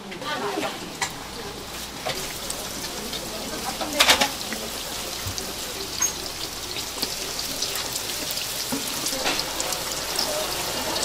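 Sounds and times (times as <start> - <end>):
oil sizzling in fryer: 0.2 - 11.0.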